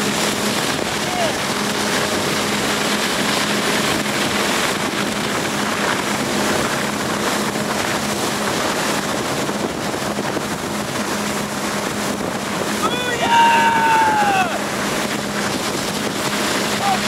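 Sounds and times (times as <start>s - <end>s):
motorboat engine hum: 0.0s - 17.0s
wind on microphone: 0.0s - 17.0s.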